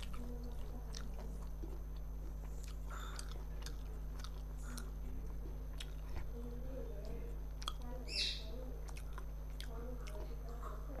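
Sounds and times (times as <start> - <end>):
person chewing food: 0.0 - 7.9, 8.8 - 10.9
low electrical hum: 0.0 - 11.0.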